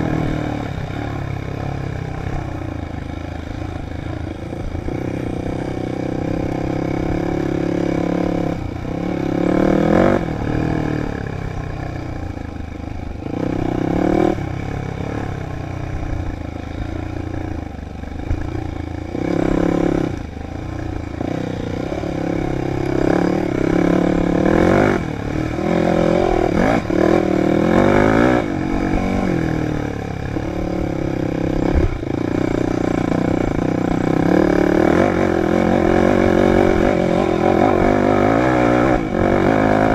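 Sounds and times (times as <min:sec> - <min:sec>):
dirt bike engine revving: 0:00.0 - 0:12.1, 0:13.1 - 0:39.9.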